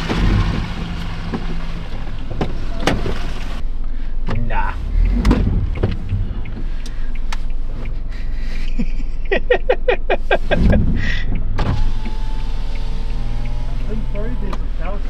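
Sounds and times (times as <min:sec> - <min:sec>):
vehicle idling hum: 0:00.0 - 0:09.2, 0:11.8 - 0:15.0.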